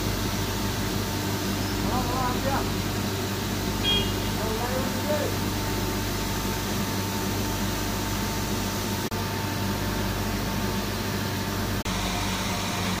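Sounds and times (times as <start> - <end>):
drilling rig machinery drone: 0.0 - 13.0.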